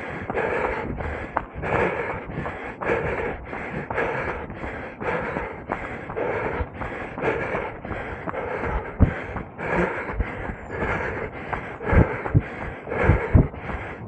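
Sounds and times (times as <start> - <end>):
runner breathing heavily: 0.0 - 14.0.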